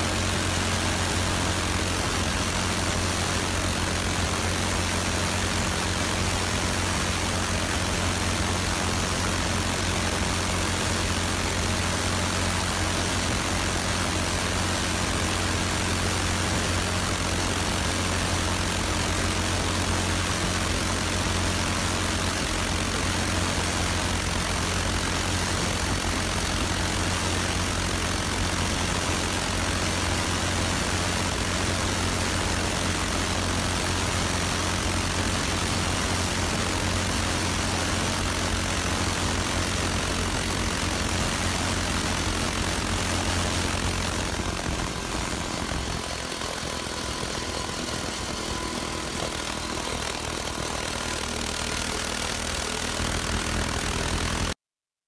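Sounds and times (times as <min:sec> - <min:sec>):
engine hiss: 0:00.0 - 0:54.6.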